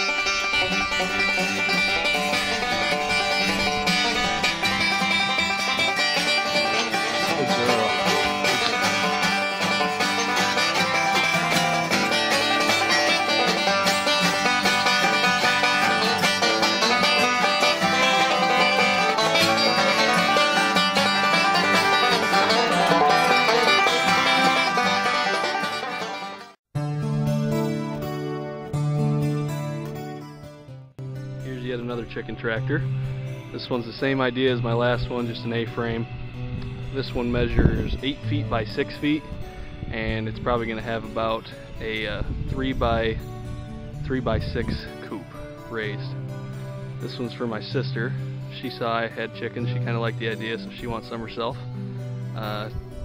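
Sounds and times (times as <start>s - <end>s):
bluegrass banjo and guitar music: 0.0s - 30.2s, 31.2s - 53.0s.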